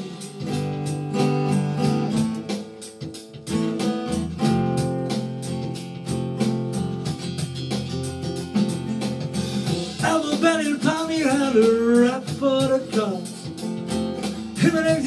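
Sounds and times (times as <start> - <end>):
rock guitar strumming: 0.0 - 15.0.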